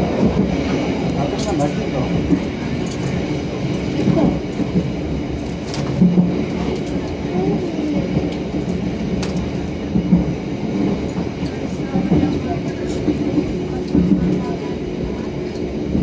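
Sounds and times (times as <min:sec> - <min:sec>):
passenger train rumbling on track: 0:00.0 - 0:16.0.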